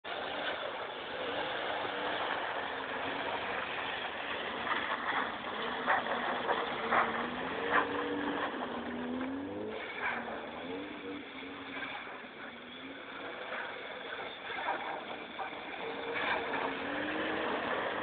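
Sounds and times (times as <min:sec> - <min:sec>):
car engine revving: 0:00.1 - 0:18.0.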